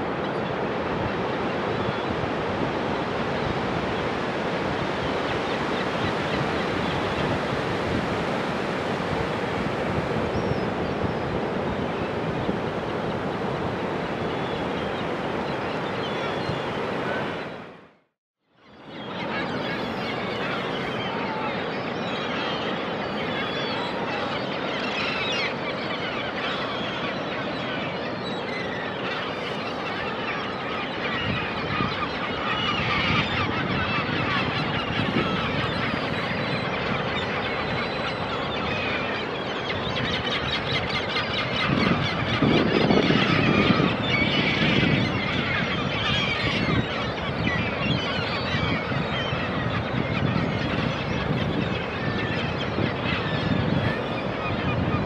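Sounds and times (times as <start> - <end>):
seabirds calling: 0.0 - 17.6, 18.6 - 55.0
ocean surf: 0.0 - 17.9, 18.9 - 55.0.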